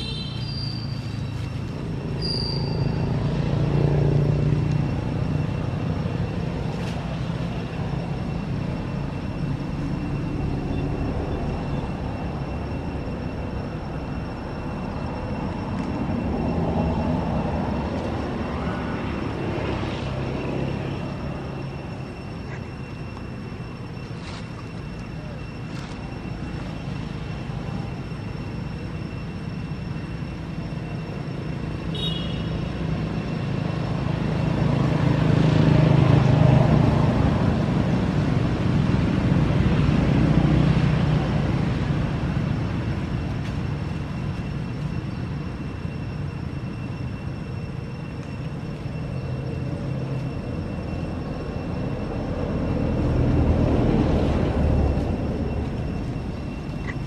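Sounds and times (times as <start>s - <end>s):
faint high whine: 0.0s - 57.0s
passing traffic rumble: 0.0s - 57.0s.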